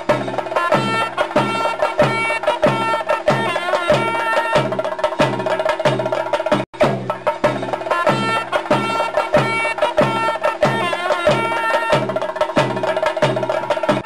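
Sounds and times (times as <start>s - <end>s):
steady drum beat: 0.0s - 14.0s.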